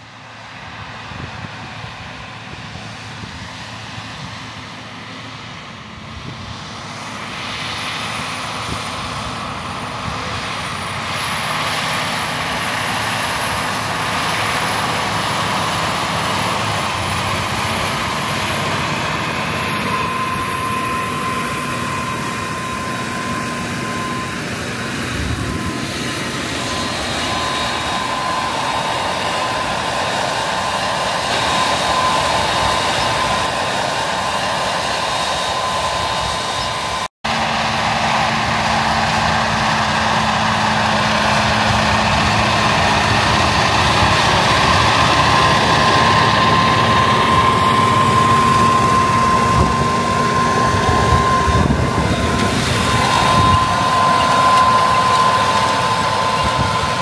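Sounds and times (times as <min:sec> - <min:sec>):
drone propellers whining: 0:00.0 - 0:57.0
tractor diesel engine running: 0:00.0 - 0:57.0.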